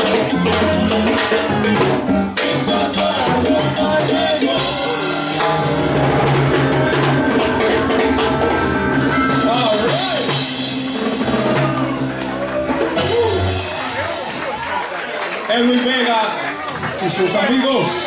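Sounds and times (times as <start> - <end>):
timbales and congas: 0.0 - 14.9
salsa band playing: 0.0 - 15.7, 16.3 - 18.0.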